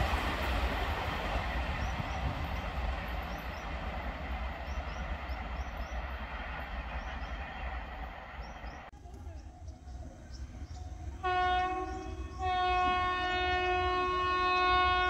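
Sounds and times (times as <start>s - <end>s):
train rumbling past on rails: 0.0s - 15.0s.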